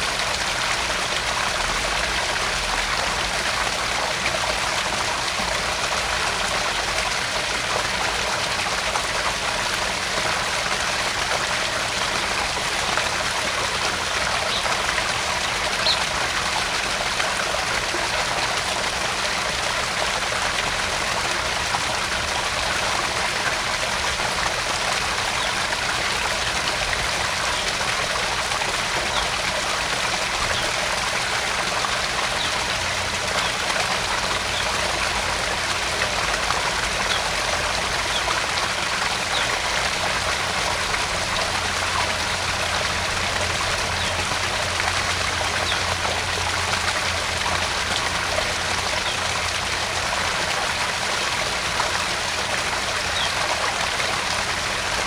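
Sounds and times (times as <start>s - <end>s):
water splashing into pond: 0.0s - 55.0s.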